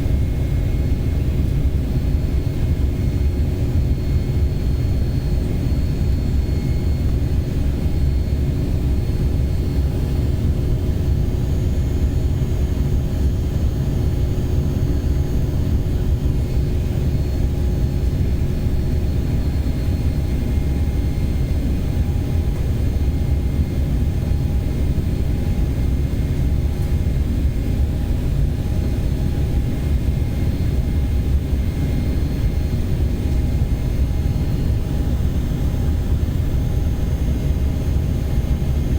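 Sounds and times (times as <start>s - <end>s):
jet airliner rumble: 0.0s - 38.9s.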